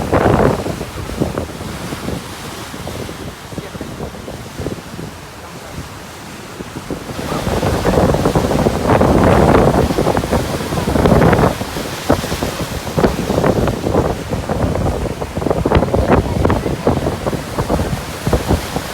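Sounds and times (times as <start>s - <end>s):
storm waves breaking: 0.0s - 18.9s
wind buffeting microphone: 0.0s - 18.9s.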